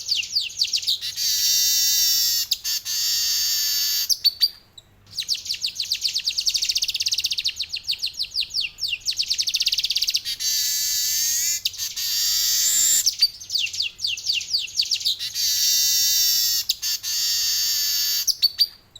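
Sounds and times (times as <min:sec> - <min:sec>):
bird chattering song: 0:00.0 - 0:18.8.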